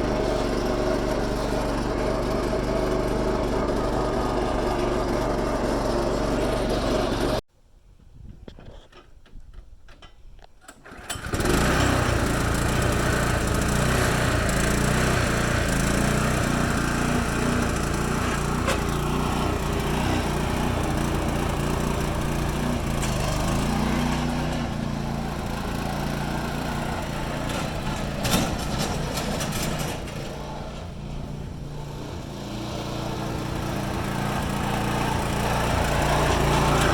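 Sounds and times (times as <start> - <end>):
garden tractor engine running: 0.0 - 7.4, 10.7 - 36.9.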